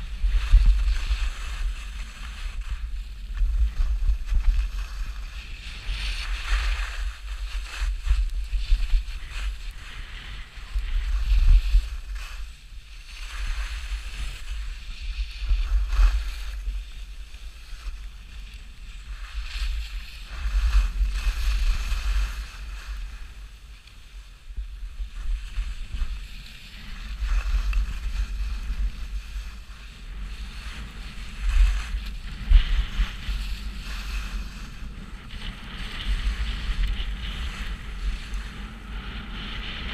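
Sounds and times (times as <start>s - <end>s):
skis scraping on snow: 0.0s - 39.9s
wind buffeting microphone: 0.0s - 39.9s.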